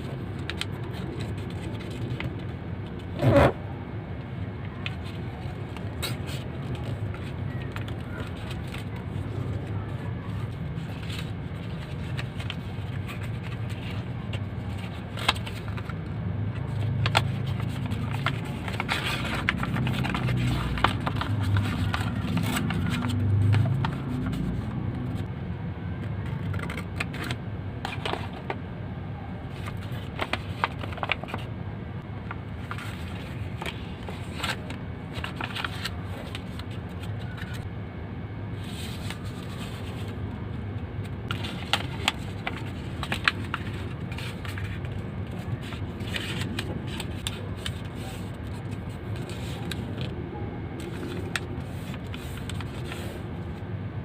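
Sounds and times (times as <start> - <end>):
paper being folded and creased: 0.0 - 3.5, 4.7 - 25.3, 26.2 - 28.5, 29.5 - 31.5, 32.6 - 37.7, 38.6 - 40.2, 41.0 - 50.2, 50.8 - 53.3.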